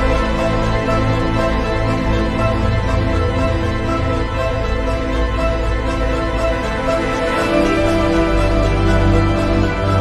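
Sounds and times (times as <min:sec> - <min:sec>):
slow sustained film score chords: 0:00.0 - 0:10.0.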